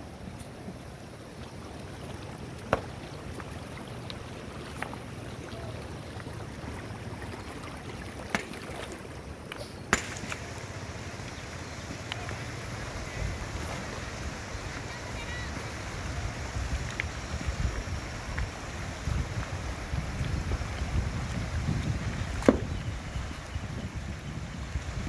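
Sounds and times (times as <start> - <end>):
river rushing over rocks: 2.1 - 25.0.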